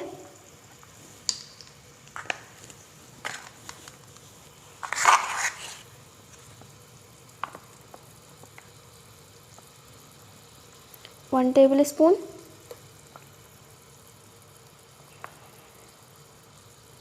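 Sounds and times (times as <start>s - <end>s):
faint frying: 0.0s - 17.0s.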